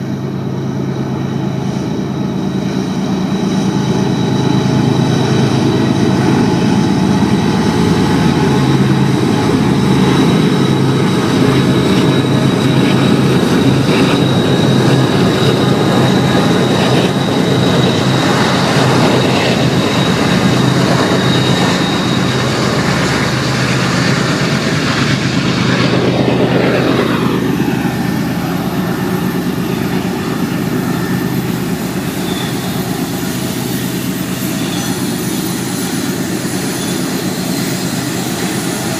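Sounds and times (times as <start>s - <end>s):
freight train rumbling on rails: 0.0s - 38.9s
train wheel squeal: 0.0s - 38.9s.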